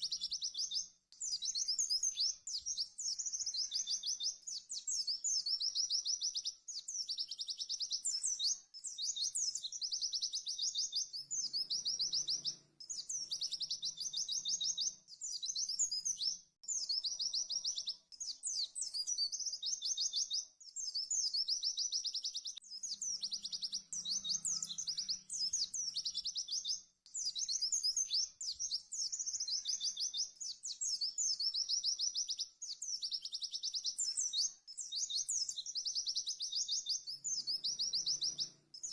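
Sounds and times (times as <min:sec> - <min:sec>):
bird singing high trilled song: 0:00.0 - 0:38.9.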